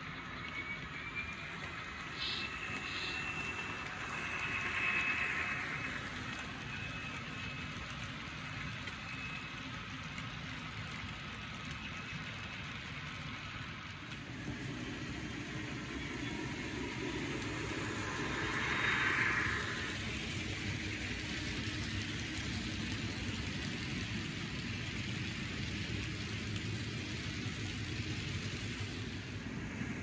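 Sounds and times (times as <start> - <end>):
model train running past: 0.0 - 30.0.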